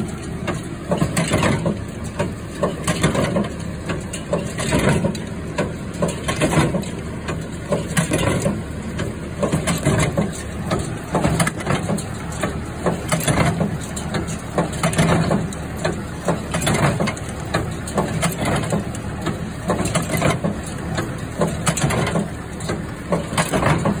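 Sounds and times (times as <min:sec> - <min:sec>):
baler engine hum: 0:00.0 - 0:24.0.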